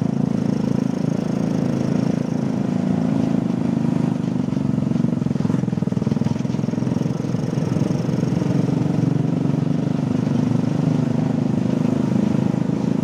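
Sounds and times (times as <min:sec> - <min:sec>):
motor scooter engine running: 0:00.0 - 0:13.0
wind and road noise: 0:00.0 - 0:13.0.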